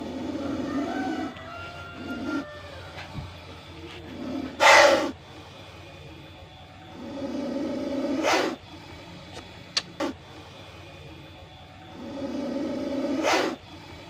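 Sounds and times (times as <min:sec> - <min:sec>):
snake hissing: 0:00.0 - 0:06.2, 0:06.9 - 0:11.2, 0:11.9 - 0:14.0.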